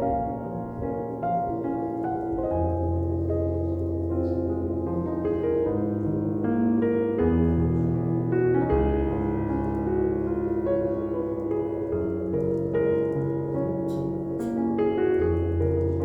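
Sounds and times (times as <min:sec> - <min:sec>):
soft piano melody: 0:00.0 - 0:16.0
sustained bass notes: 0:00.0 - 0:16.0.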